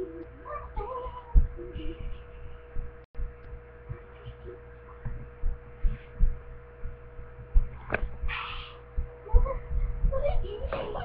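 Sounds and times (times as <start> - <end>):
electrical hum: 0.0 - 11.0
soft low thuds: 0.2 - 11.0.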